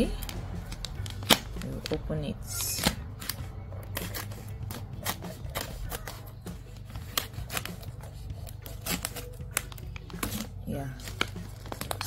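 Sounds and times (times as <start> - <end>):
plastic crinkling: 0.0 - 2.0, 2.6 - 12.0
scissors snipping plastic film: 0.0 - 12.0.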